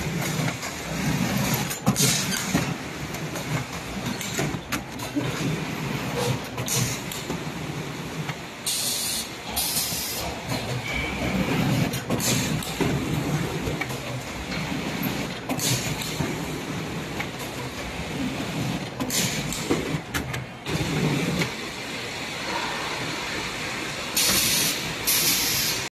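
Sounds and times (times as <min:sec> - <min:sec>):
machine rollers clattering: 0:00.0 - 0:25.9.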